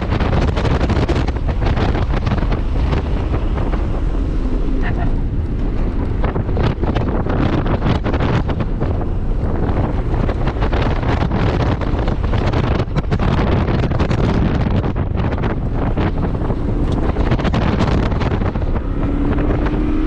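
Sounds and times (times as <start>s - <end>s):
moving car: 0.0s - 20.0s
wind buffeting microphone: 0.0s - 20.0s.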